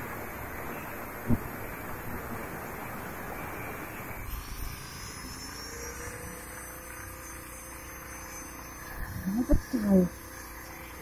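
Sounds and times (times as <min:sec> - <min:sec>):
faint motor whine: 0:00.0 - 0:11.0.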